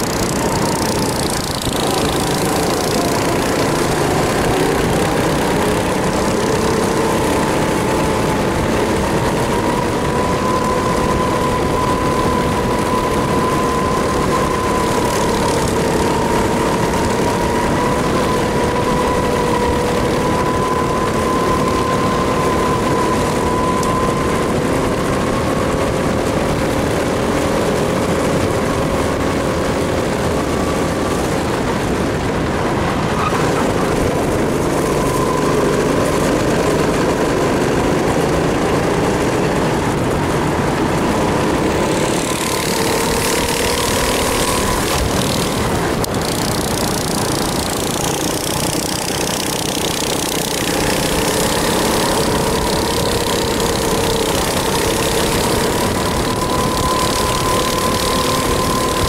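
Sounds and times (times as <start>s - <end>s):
kart engine running: 0.0s - 59.0s
rushing air noise: 0.0s - 59.0s.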